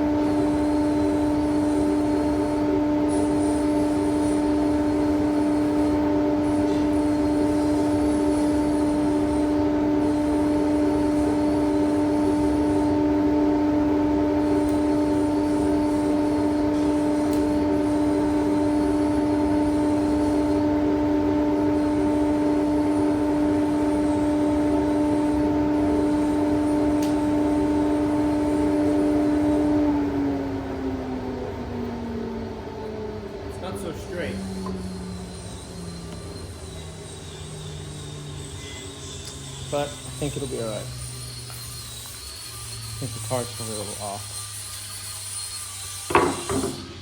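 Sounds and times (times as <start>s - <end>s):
power tool motor whining: 0.0s - 47.0s.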